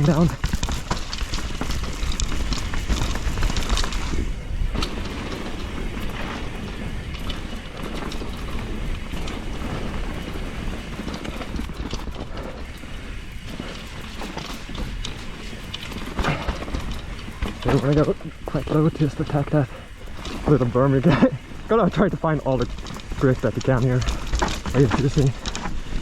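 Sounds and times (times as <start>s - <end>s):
bike knocking and rattling: 0.0s - 26.0s
bike tyres rolling on trail: 0.0s - 26.0s.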